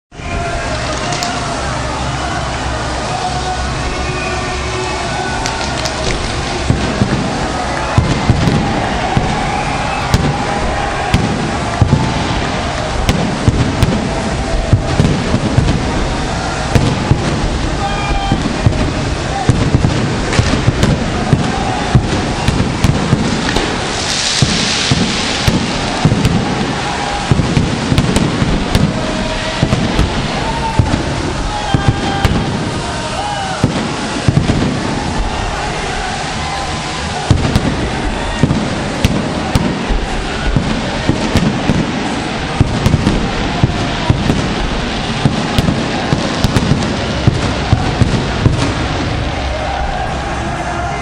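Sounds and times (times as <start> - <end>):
large crowd din: 0.0 - 51.0
fireworks bangs: 0.1 - 51.0
fireworks crackling: 0.1 - 51.0
loud hiss: 0.1 - 51.0.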